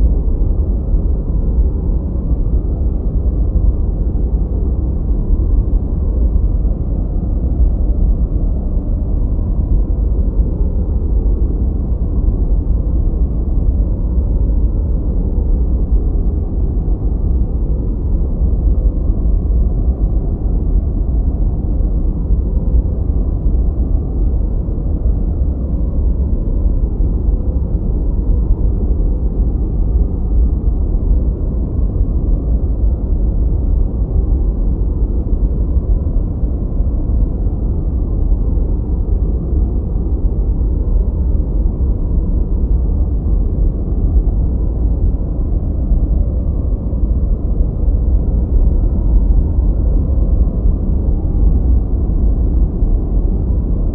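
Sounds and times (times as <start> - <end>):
deep rumbling noise: 0.0 - 53.9.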